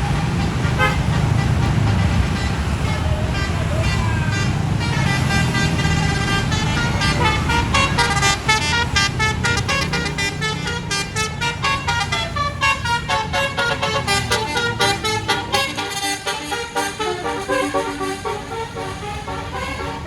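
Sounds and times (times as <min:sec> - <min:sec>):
bus engine rumble: 0:00.0 - 0:20.0
bus horn playing a quick tune: 0:00.0 - 0:20.0.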